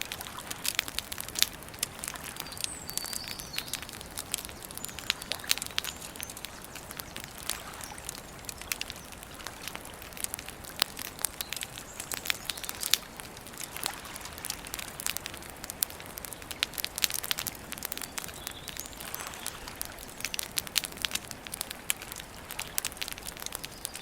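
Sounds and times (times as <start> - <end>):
campfire crackling: 0.0 - 24.0
fire pops and snaps: 0.0 - 24.0
soft steady hiss: 0.0 - 24.0.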